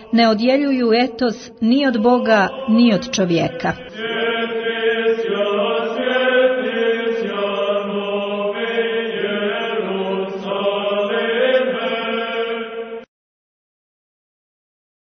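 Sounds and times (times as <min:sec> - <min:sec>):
voices chanting held notes: 0:00.0 - 0:13.1.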